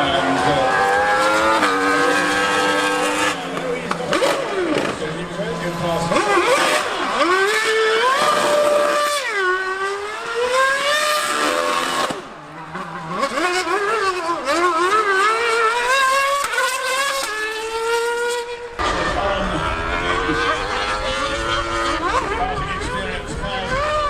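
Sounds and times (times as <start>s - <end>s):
motorcycle engine revving: 0.0s - 24.0s
racing car engine revving: 0.0s - 24.0s.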